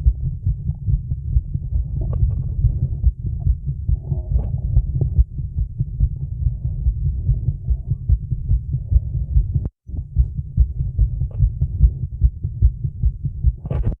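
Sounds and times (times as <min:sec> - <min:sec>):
fast heartbeat: 0:00.0 - 0:14.0.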